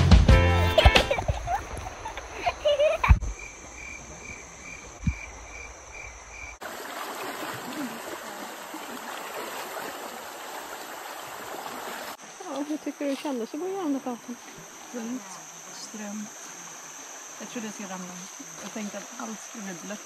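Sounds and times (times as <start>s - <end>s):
river flowing: 0.6s - 20.0s.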